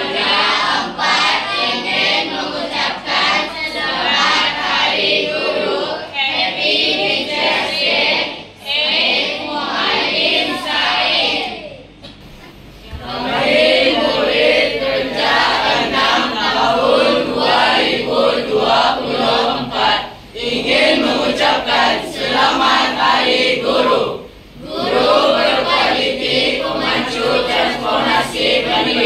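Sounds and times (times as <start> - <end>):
children singing in unison: 0.0 - 11.5, 13.0 - 29.0.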